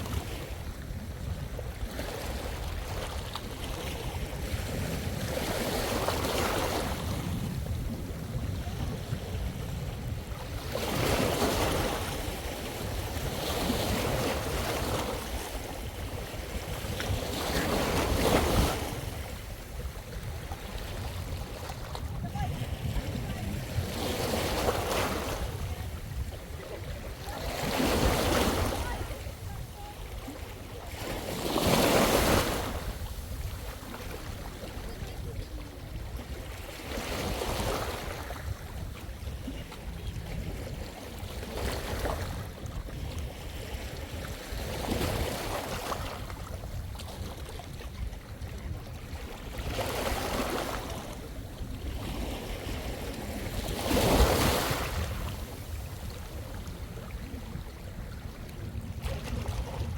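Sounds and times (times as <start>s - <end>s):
small waves washing up shore: 0.0s - 59.9s.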